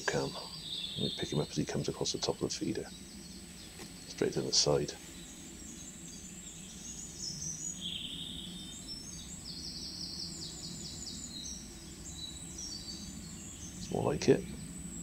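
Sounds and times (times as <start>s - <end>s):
low background noise: 0.0s - 15.0s
songbirds singing: 0.0s - 15.0s.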